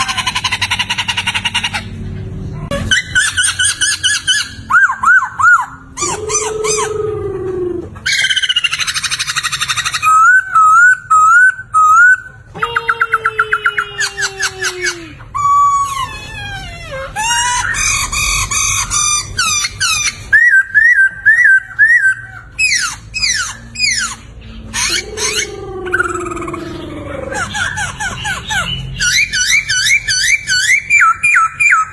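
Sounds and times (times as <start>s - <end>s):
laughingthrush singing: 0.0s - 31.9s.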